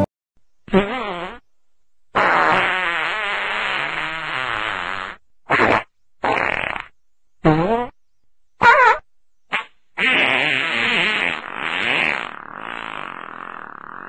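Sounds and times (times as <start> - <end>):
farting: 0.7 - 1.4, 2.2 - 8.0, 8.6 - 14.0.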